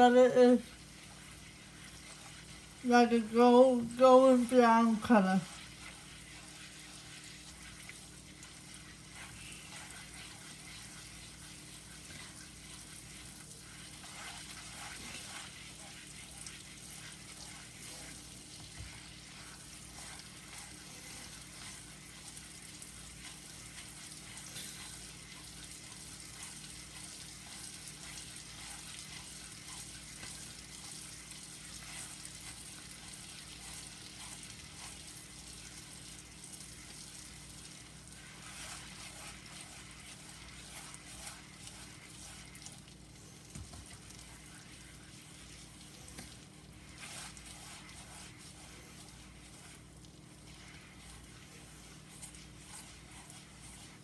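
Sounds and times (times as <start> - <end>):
butter and sugar sizzling: 0.0 - 54.0.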